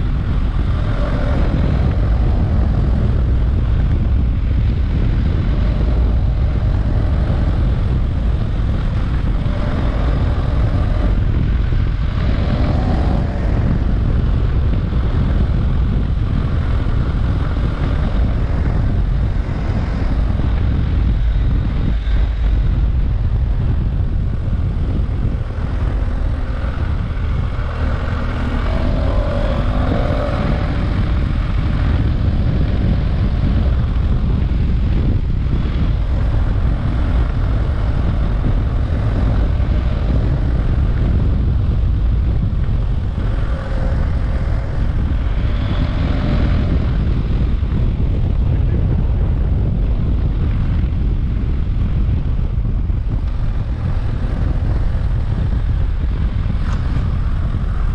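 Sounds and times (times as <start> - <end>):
motorcycle engine running: 0.0 - 57.9
wind and road noise: 0.0 - 57.9.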